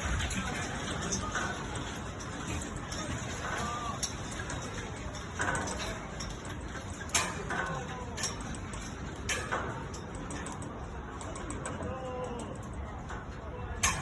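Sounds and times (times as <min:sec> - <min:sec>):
sharp clicks and knocks: 0:00.0 - 0:14.0
steady background noise: 0:00.0 - 0:14.0.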